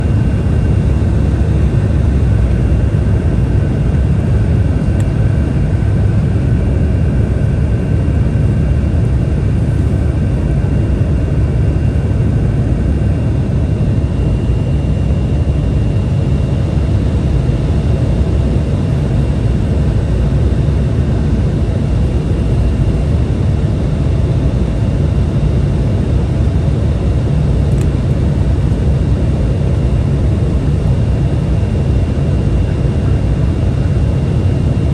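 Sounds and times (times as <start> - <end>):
jet cabin roar: 0.0 - 34.9.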